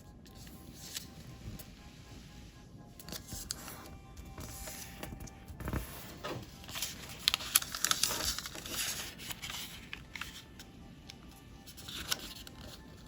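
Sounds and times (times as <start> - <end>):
paper being folded and crinkled: 0.2 - 1.6, 3.1 - 13.0.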